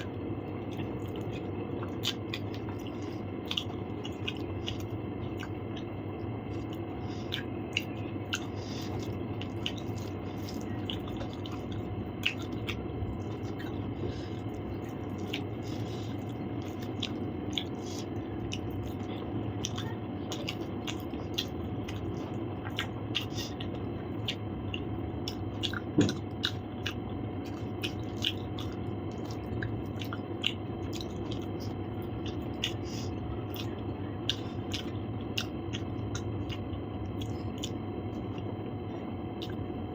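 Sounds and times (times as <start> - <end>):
chewing with wet mouth clicks: 0.0 - 39.7
steady background hum: 0.0 - 39.9.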